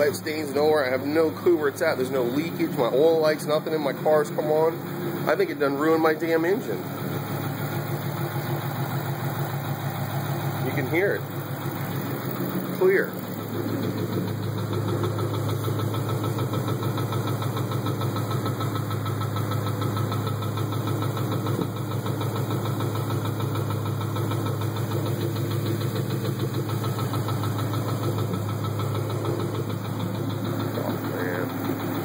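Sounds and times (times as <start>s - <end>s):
car engine knocking: 0.0s - 32.0s.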